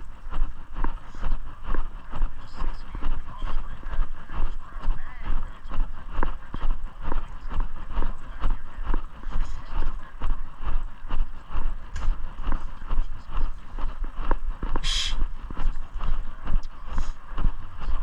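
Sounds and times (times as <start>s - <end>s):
footsteps walking: 0.0s - 4.6s, 5.3s - 18.0s
body-worn microphone jostling: 0.0s - 18.0s.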